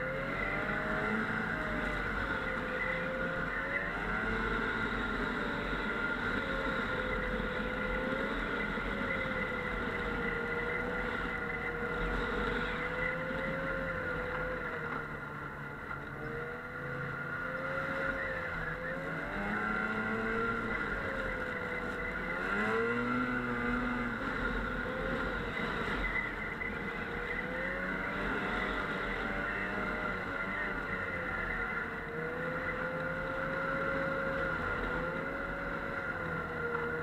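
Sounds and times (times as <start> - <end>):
snowmobile engine running: 0.0 - 37.0.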